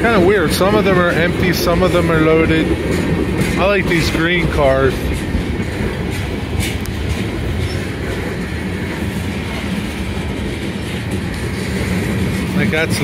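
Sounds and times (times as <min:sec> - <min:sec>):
freight train wheels rumbling: 0:00.0 - 0:13.0
train clicks: 0:00.0 - 0:13.0.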